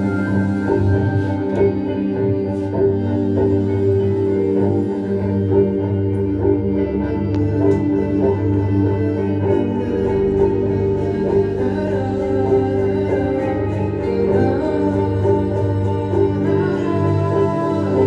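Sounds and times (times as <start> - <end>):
ambient music with organ-like tones: 0.0 - 18.0.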